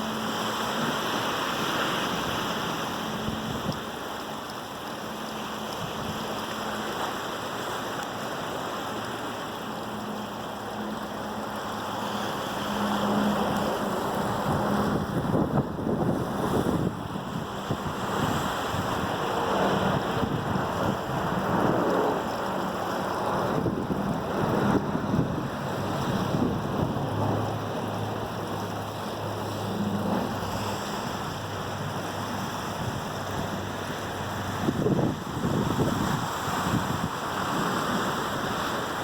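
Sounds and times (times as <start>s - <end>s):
wave crashes and splashes: 0.0s - 39.0s
waves rushing and breaking: 0.0s - 39.0s
wind buffeting microphone: 1.0s - 4.2s, 9.9s - 39.0s.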